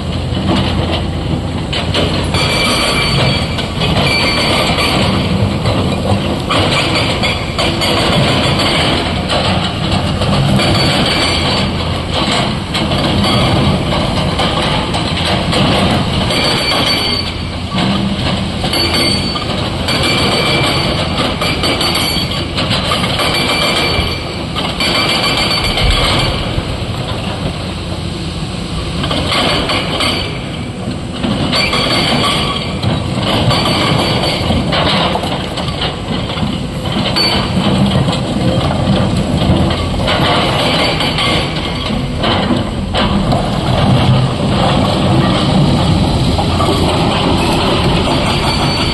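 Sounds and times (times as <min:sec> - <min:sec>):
excavator engine and hydraulics: 0:00.0 - 0:48.9
rock clanking on steel: 0:00.3 - 0:27.8, 0:29.0 - 0:48.9.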